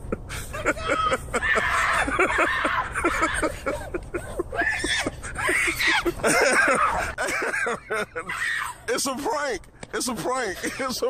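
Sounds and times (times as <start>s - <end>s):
people laughing hard: 0.0s - 9.1s.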